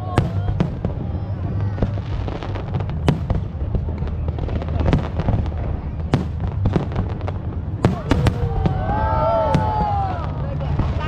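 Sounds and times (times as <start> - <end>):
fireworks bangs and crackles: 0.0 - 11.0
low rumble of shells bursting: 0.0 - 11.0.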